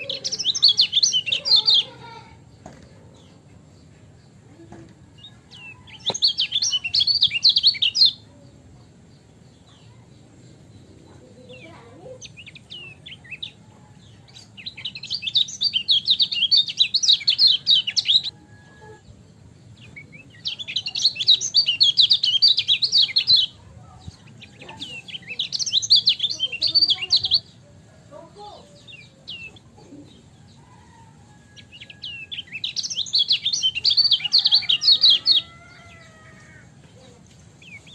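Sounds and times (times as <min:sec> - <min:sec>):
high rapid twittering birdsong: 0:00.0 - 0:37.9.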